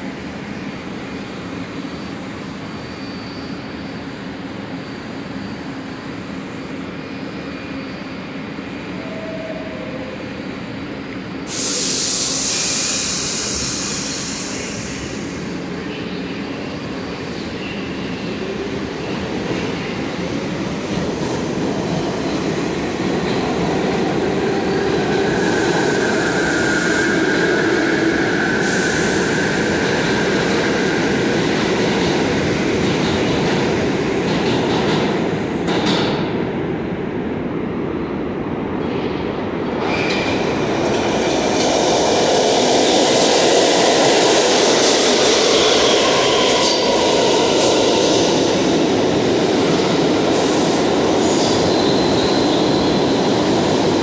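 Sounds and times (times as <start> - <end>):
subway trains rumbling: 0.0 - 54.0.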